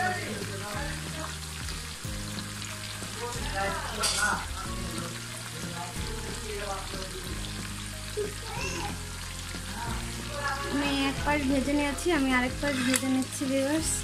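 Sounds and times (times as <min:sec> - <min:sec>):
chicken deep-frying in oil: 0:00.0 - 0:14.0
oil crackle: 0:00.0 - 0:14.0.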